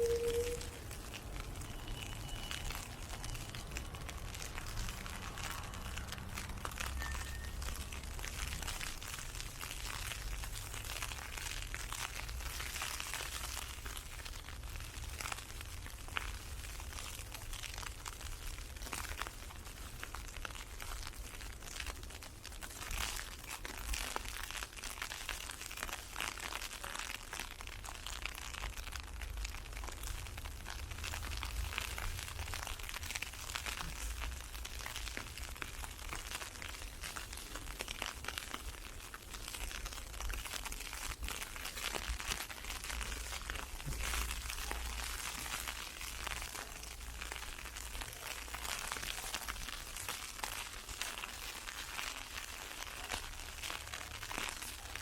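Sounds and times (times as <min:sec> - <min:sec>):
ice pellets ticking on umbrella: 0:00.0 - 0:55.0.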